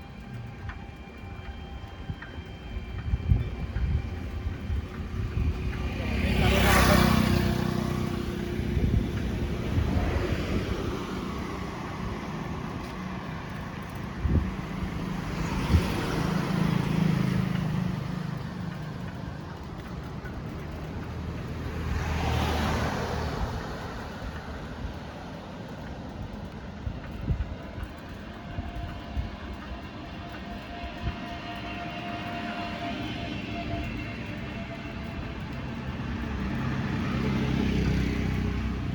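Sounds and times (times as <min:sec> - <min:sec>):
road traffic passing: 0:00.0 - 0:38.9
vehicles passing close: 0:00.0 - 0:38.9.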